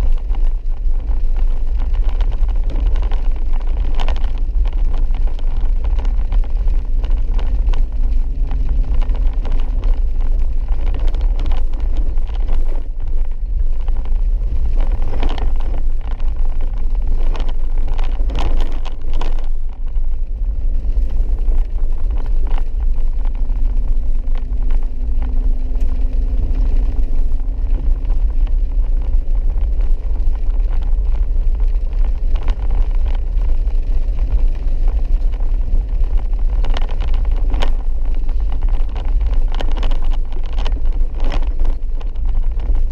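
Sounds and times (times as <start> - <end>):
vehicle engine and tyres rumbling: 0.0 - 42.9
vehicle rattles and knocks: 0.0 - 42.9.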